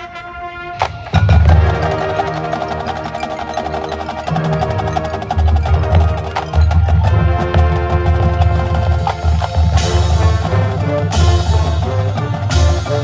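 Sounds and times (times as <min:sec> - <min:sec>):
marching band music: 0:00.0 - 0:13.0
rapid drum line percussion: 0:00.8 - 0:13.0.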